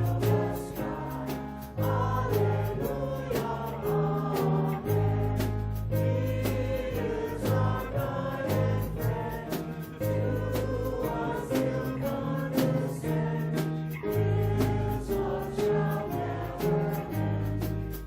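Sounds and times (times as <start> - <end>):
voices singing worship song: 0.0 - 18.0.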